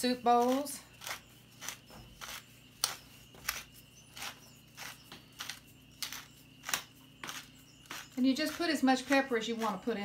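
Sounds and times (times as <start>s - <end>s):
pepper mill grinding: 0.0s - 10.0s.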